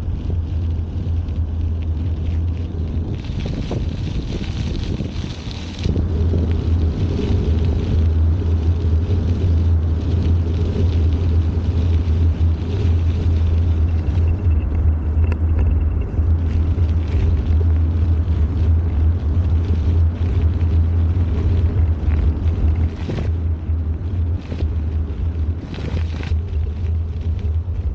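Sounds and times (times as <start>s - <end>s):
bicycle riding rumble: 0.0s - 27.9s
wind buffeting microphone: 0.0s - 27.9s.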